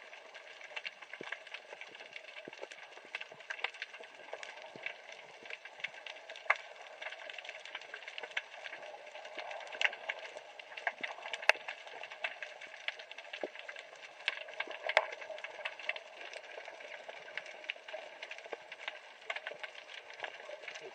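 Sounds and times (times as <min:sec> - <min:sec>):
underwater reef crackling clicks: 0:00.1 - 0:20.9.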